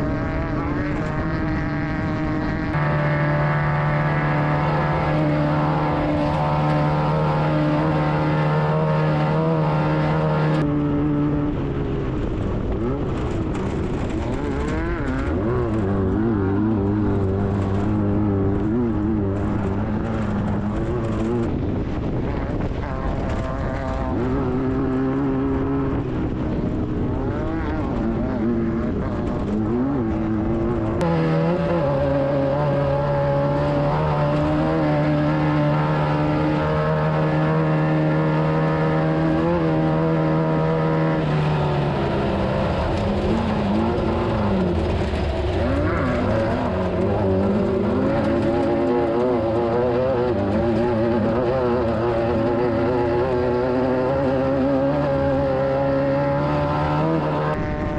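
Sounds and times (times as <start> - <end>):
racing buggy engine revving: 0.0 - 57.9.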